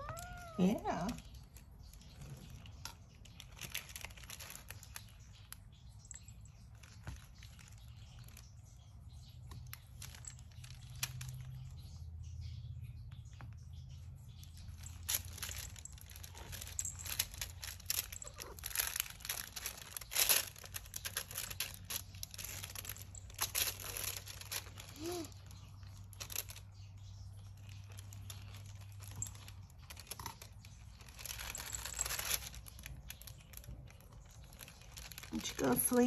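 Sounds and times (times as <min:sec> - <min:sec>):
plastic film crinkling: 0:00.0 - 0:12.0, 0:14.3 - 0:36.0.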